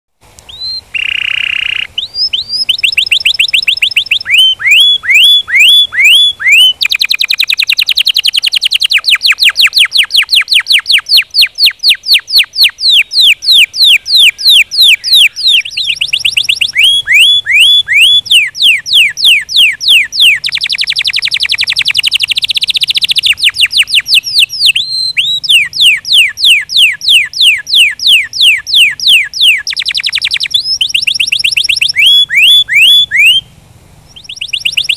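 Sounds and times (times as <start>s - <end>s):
canary singing trills: 0.5s - 34.9s.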